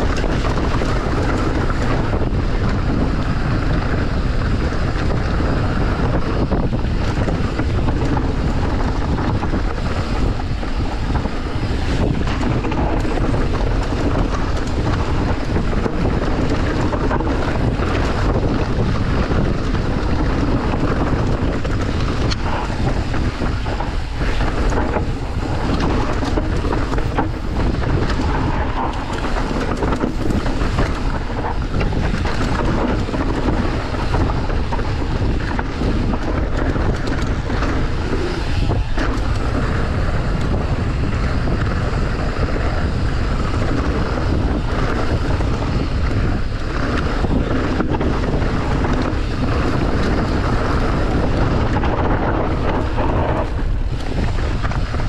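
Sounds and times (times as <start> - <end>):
bike knocking and rattling: 0.0 - 55.0
electric bike rumble: 0.0 - 55.0
wind noise on microphone: 0.0 - 55.0.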